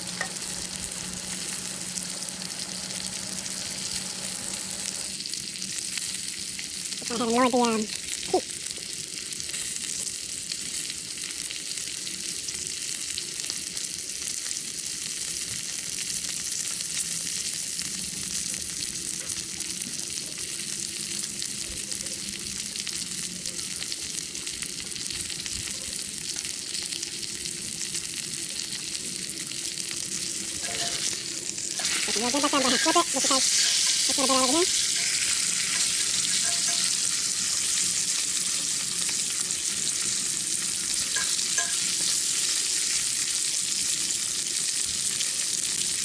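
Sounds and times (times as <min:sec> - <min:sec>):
steak sizzling in a skillet: 0:00.0 - 0:46.0.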